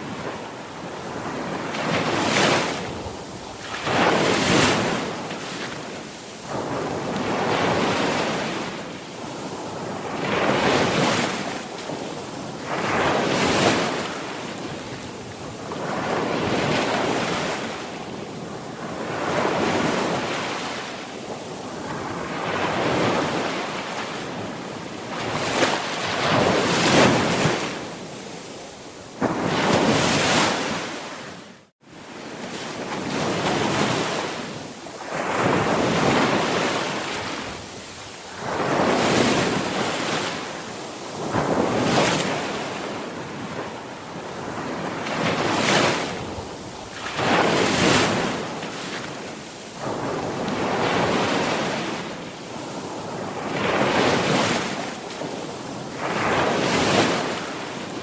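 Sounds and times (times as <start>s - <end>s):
ocean waves breaking: 0.0s - 58.0s
wind: 0.0s - 58.0s.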